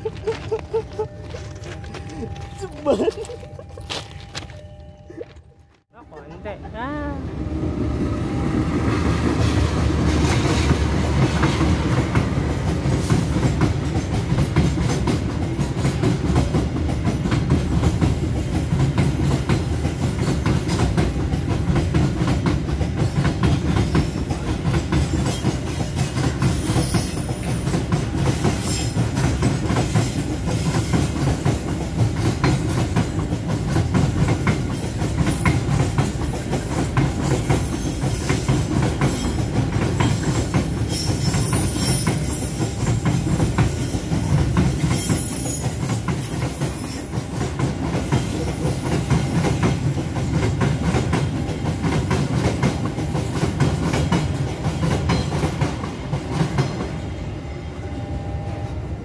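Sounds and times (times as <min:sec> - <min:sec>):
freight train rumbling past: 0:06.0 - 0:59.0
wheels clacking over rail joints: 0:09.2 - 0:56.9.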